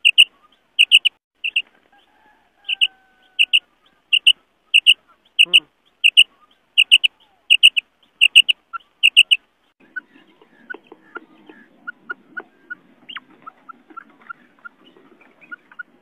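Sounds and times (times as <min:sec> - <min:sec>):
faint background noise: 0:00.0 - 0:16.0
quail calling: 0:00.0 - 0:16.0.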